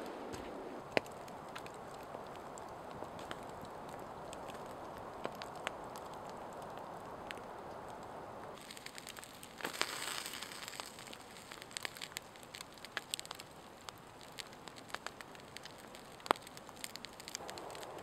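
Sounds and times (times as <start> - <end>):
campfire crackling and popping: 0.0 - 18.0
fire hiss: 0.0 - 18.0.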